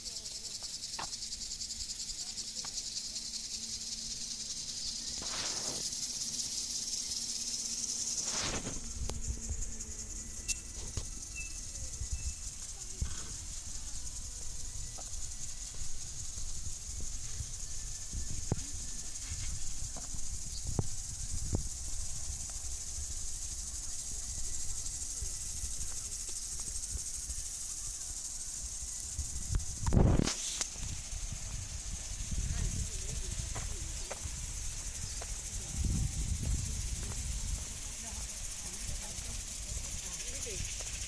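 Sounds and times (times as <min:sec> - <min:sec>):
lawn sprinklers hissing: 0:00.0 - 0:41.0.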